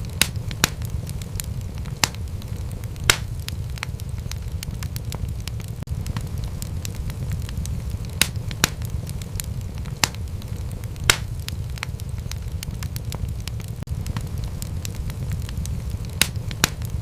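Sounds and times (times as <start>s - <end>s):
sharp pops from fire: 0.0s - 17.0s
wood fire crackling: 0.0s - 17.0s.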